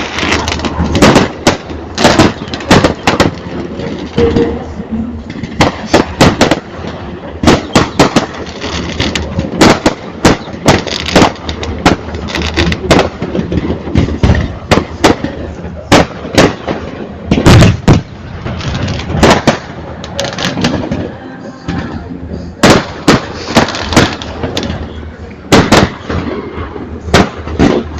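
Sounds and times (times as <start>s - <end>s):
firecrackers banging: 0.0s - 27.9s.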